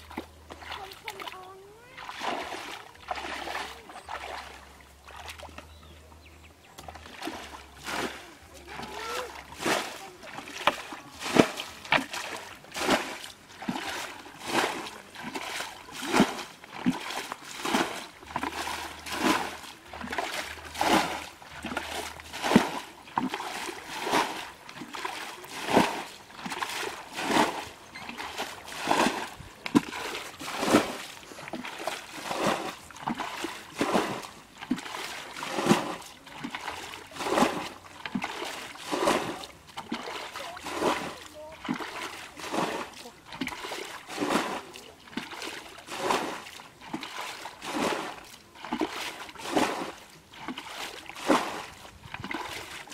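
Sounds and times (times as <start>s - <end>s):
bucket splashing water: 0.0s - 5.8s, 6.7s - 52.9s.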